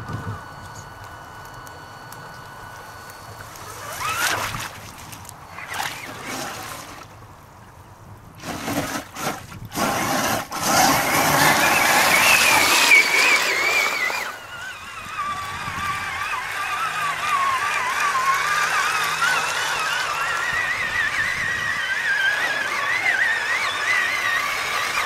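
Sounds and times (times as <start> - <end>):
toy truck drivetrain whining: 0.0 - 7.0, 8.4 - 25.0
water splashing around wheels: 3.4 - 7.2, 8.4 - 25.0.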